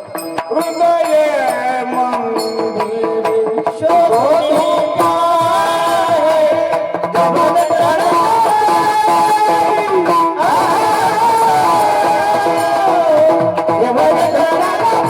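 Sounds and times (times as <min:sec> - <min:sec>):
instrumental accompaniment: 0:00.0 - 0:15.0
person singing devotional song: 0:00.0 - 0:15.0
sharp percussion strikes: 0:00.0 - 0:15.0.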